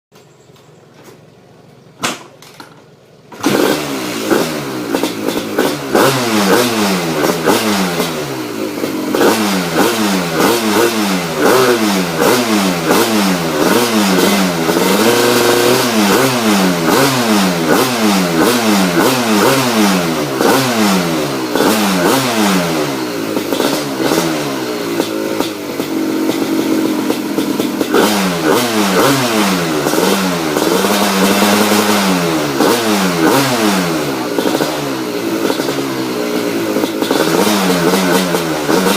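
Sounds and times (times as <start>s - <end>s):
two-stroke engine revving: 3.3s - 38.9s.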